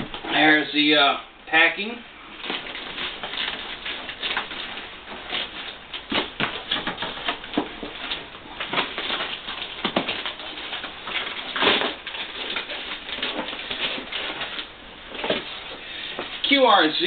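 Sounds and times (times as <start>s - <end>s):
cardboard boxes being handled: 2.3s - 16.7s.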